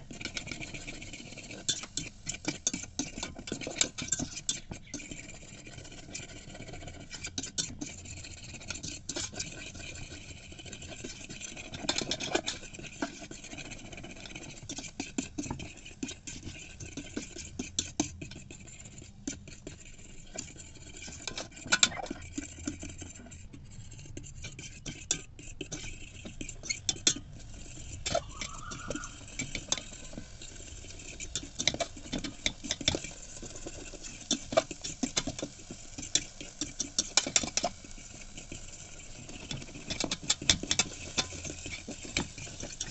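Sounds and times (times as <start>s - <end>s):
metal spoon scraping kettle: 0.0s - 42.9s.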